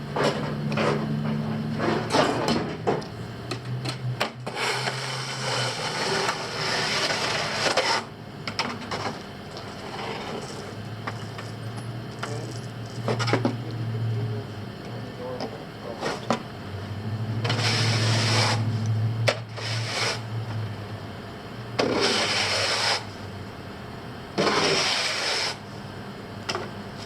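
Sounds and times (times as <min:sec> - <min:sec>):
stepper motors humming: 0:00.0 - 0:26.5.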